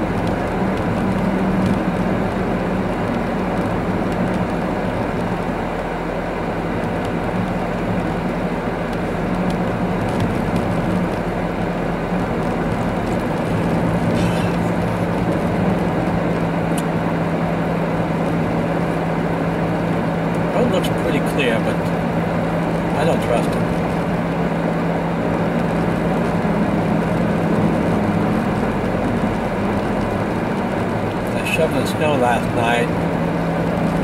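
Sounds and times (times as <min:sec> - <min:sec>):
car engine running: 0:00.0 - 0:34.0
tyre and road noise: 0:00.0 - 0:34.0.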